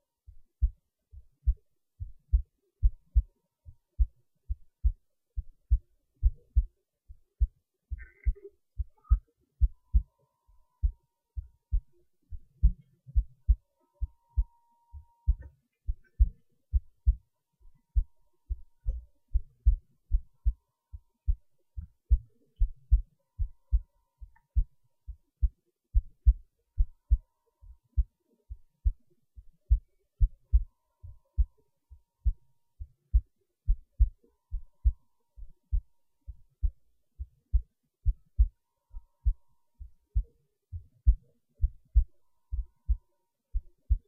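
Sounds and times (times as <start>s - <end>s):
heartbeat thumps: 0.3s - 10.1s, 10.8s - 17.2s, 17.9s - 27.2s, 27.9s - 31.6s, 32.2s - 38.6s, 39.2s - 44.0s.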